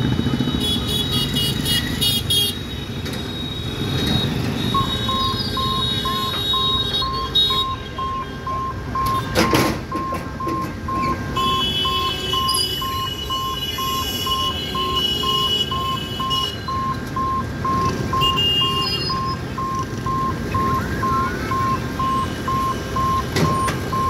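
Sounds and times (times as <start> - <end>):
motorbike traffic rumbling: 0.0 - 24.0
crossing warning beeper: 2.6 - 24.0.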